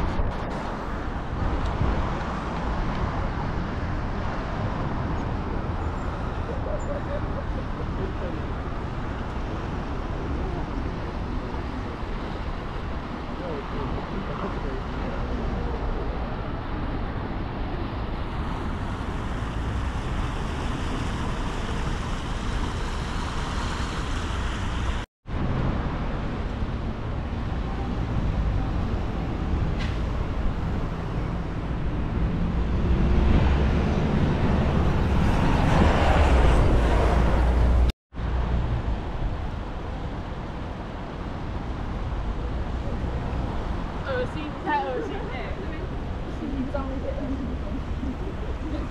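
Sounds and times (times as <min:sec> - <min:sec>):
cars and buses passing: 0:00.0 - 0:48.9
wind rumble on microphone: 0:00.0 - 0:48.9.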